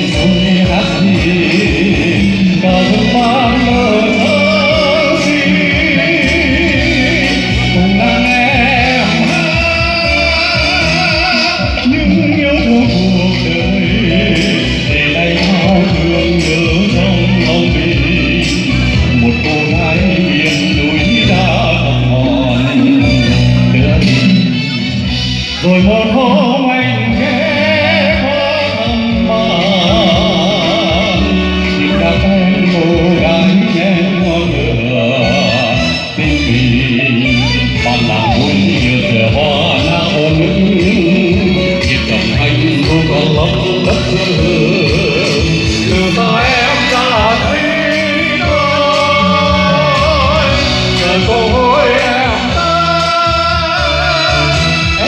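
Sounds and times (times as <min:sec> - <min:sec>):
backing music over loudspeakers: 0:00.0 - 0:55.0
instrumental accompaniment: 0:00.0 - 0:55.0
man singing into a microphone: 0:00.0 - 0:55.0.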